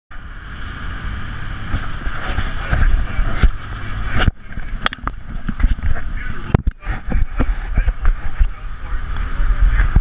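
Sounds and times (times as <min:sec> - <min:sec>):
boat engine: 0:00.1 - 0:10.0
wind: 0:00.1 - 0:10.0.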